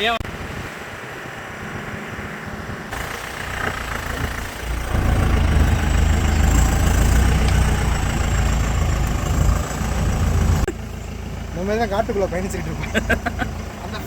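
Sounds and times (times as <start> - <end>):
diesel jeep engine driving off-road: 0.0 - 14.0.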